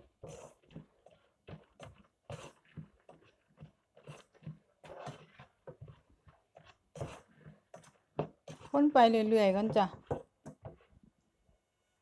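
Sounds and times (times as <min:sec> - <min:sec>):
spatula scraping a pan: 0:00.0 - 0:11.0.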